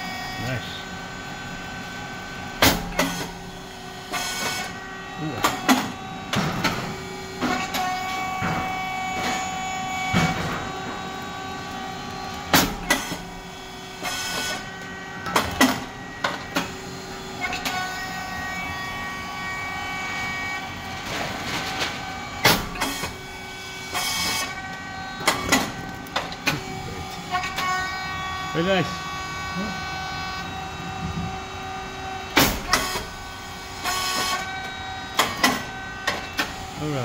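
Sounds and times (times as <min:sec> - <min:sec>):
machine motor hum and whine: 0:00.0 - 0:37.0.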